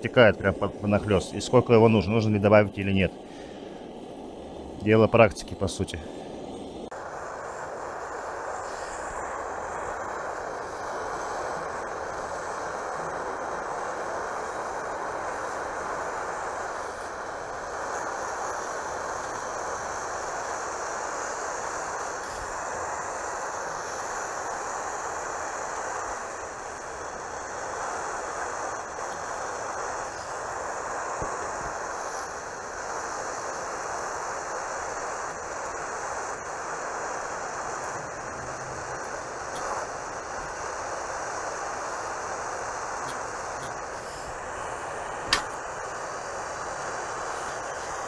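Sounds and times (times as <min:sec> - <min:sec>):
burner flame hissing: 0:00.0 - 0:48.0.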